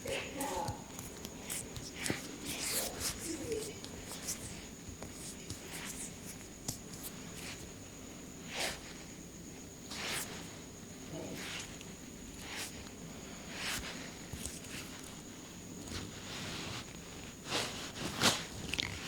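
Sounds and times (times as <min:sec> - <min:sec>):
hands rubbing over skin: 0:00.0 - 0:07.7, 0:09.9 - 0:10.6, 0:11.3 - 0:18.5.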